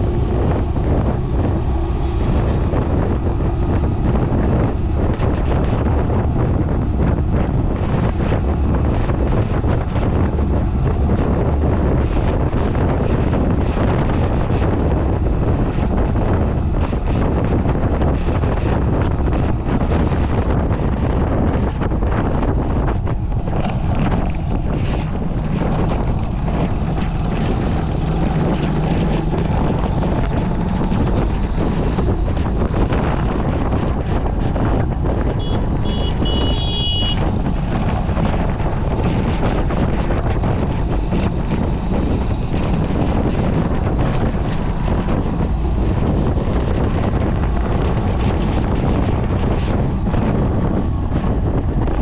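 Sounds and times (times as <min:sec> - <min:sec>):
motorcycle and road rumble: 0:00.0 - 0:52.0
wind buffeting microphone: 0:00.0 - 0:52.0.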